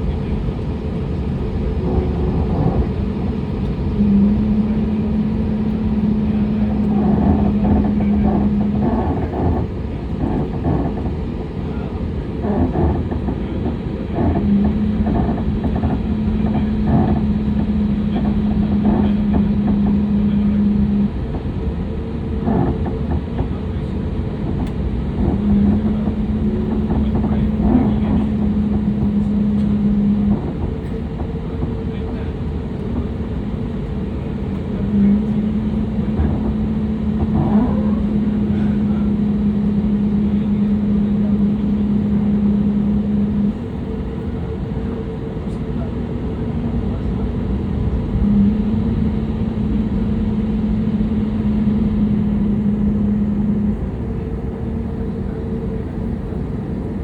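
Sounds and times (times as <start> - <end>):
jet engines running at low power: 0.0 - 57.0
steady low hum: 0.0 - 57.0.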